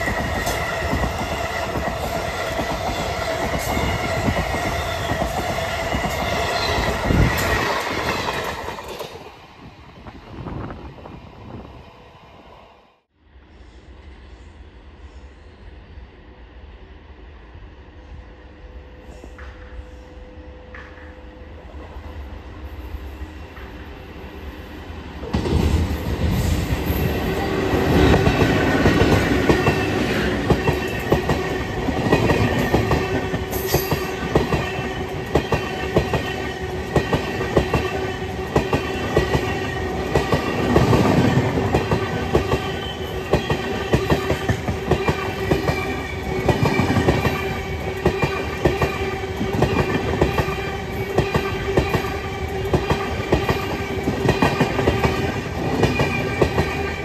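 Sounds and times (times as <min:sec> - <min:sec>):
train passing at speed: 0:00.0 - 0:57.0.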